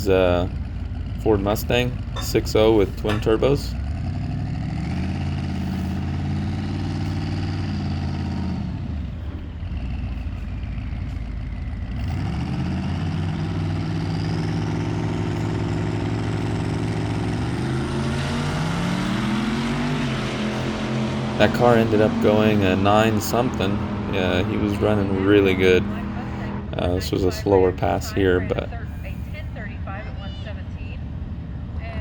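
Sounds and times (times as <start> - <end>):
car engine at full throttle: 0.0 - 30.2.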